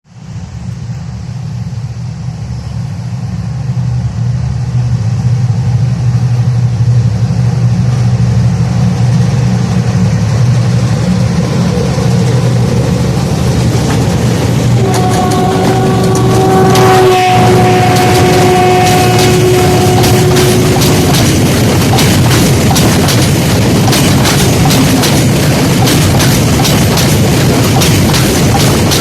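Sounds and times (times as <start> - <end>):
diesel locomotive engine drone: 0.1 - 29.0.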